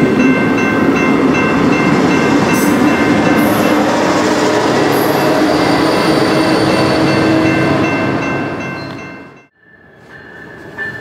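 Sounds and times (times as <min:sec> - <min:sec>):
level-crossing bell ringing: 0:00.0 - 0:04.1, 0:05.0 - 0:11.0
train wheels roaring on rail: 0:00.0 - 0:11.0.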